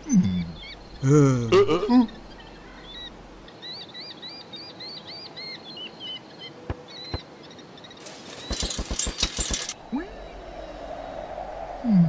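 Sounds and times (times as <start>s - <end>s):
small birds chirping: 0.0s - 1.2s, 2.0s - 11.2s.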